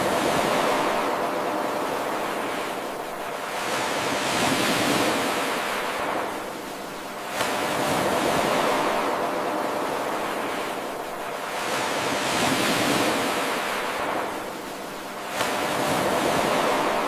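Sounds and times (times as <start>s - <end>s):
ocean waves washing in: 0.0s - 17.0s.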